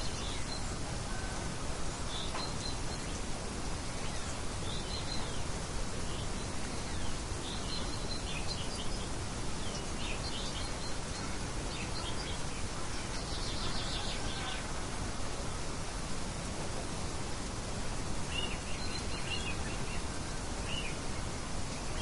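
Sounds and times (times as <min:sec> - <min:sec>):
birds chirping: 0:00.0 - 0:14.8, 0:18.1 - 0:22.0
outdoor background noise: 0:00.0 - 0:22.0.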